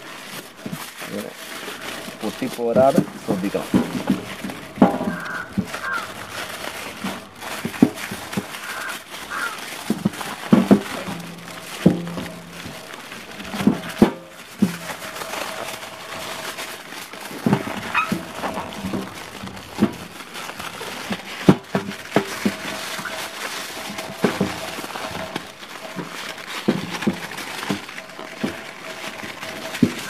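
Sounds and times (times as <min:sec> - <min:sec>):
aluminium foil crinkling: 0:00.0 - 0:30.0.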